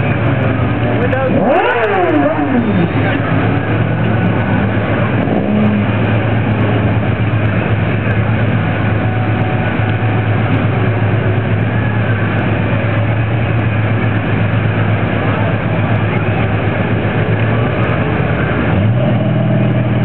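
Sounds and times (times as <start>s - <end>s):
car engines idling rumble: 0.0s - 20.0s.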